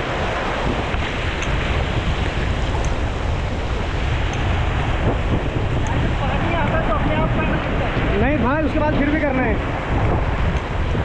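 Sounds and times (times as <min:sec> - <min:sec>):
rushing river water: 0:00.0 - 0:11.0
wind buffeting microphone: 0:00.0 - 0:11.0.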